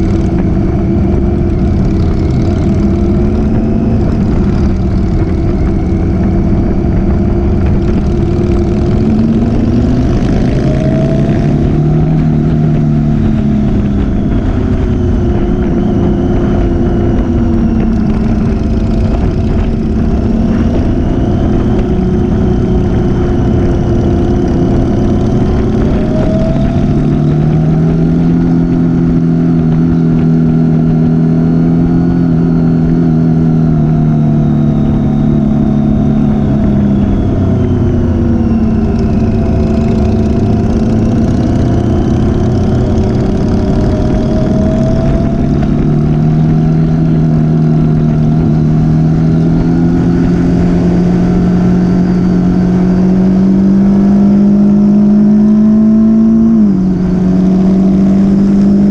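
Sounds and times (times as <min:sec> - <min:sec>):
motorcycle engine running: 0:00.0 - 0:58.9
wind noise: 0:00.0 - 0:58.9.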